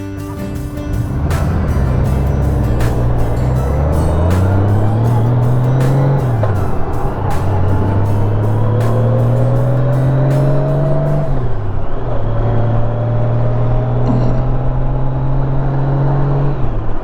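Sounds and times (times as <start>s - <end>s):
motorcycle engine accelerating: 0.6s - 17.0s.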